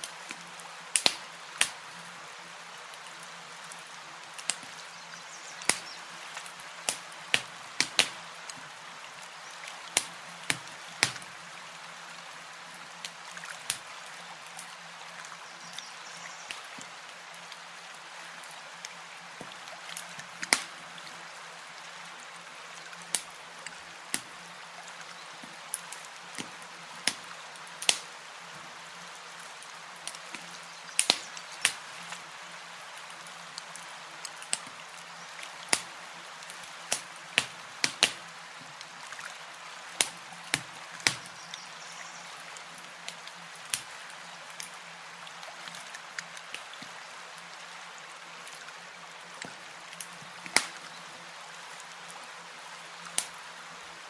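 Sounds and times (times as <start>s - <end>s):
campfire crackling: 0.0s - 45.0s, 49.4s - 51.0s, 53.1s - 53.4s.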